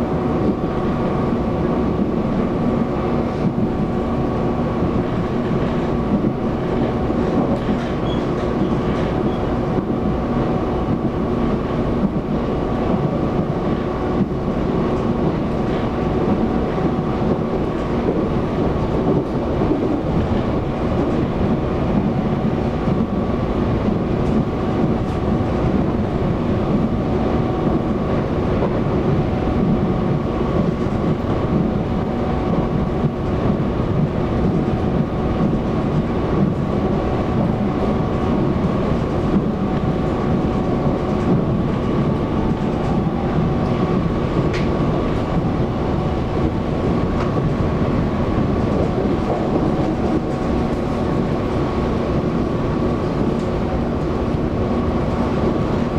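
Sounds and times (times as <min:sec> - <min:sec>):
train wheels rumbling on track: 0:00.0 - 0:55.9.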